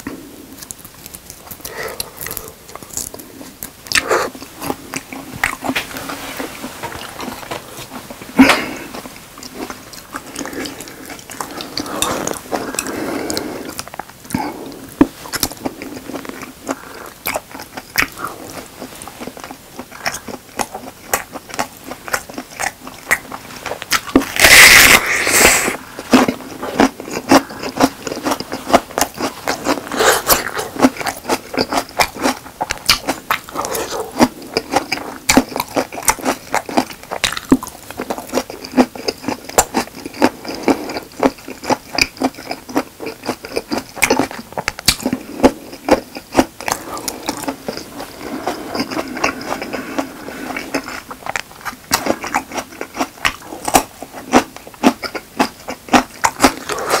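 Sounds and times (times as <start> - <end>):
close chewing and crunching: 0.0 - 57.0.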